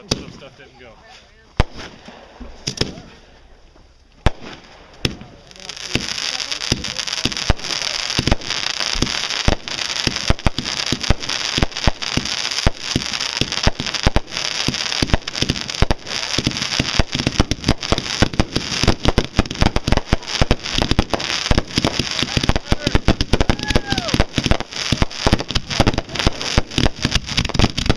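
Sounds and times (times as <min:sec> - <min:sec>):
fireworks bangs: 0:00.0 - 0:00.6, 0:01.6 - 0:03.4, 0:04.2 - 0:27.9
fireworks hissing crackle: 0:00.0 - 0:27.9.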